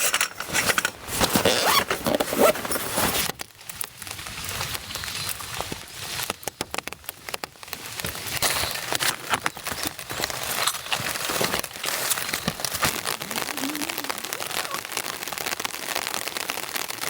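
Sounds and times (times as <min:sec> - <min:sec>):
campfire crackling and popping: 0:03.2 - 0:17.0.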